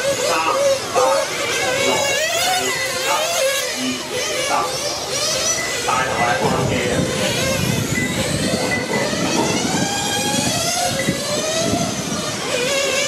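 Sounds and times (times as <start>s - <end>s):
rc motorcycle motors whining: 0.0s - 13.0s.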